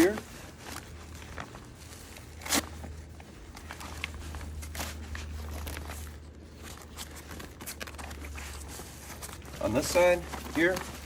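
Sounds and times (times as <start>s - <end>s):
fabric cover rustling: 0.0s - 11.0s
steady low hum: 0.0s - 11.0s
velcro rasping: 0.0s - 11.0s.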